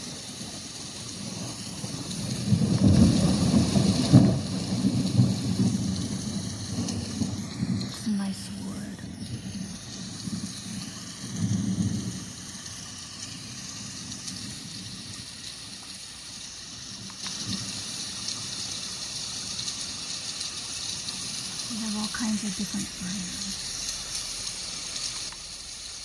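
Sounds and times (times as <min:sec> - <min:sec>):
bright steady hiss: 0:00.0 - 0:26.0
low rumble of thunder: 0:00.0 - 0:26.0
rain hiss: 0:00.0 - 0:26.0.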